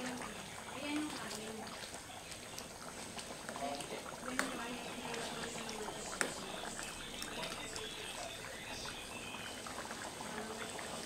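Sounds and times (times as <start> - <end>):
thick stew bubbling and popping: 0.0 - 11.0.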